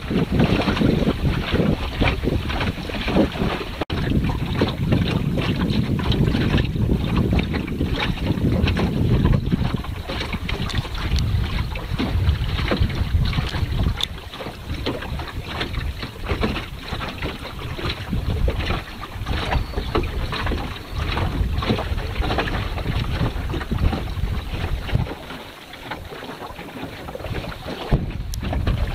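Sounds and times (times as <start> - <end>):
water splashing against boat hull: 0.0 - 28.9
wind rumbling on microphone: 0.0 - 28.9.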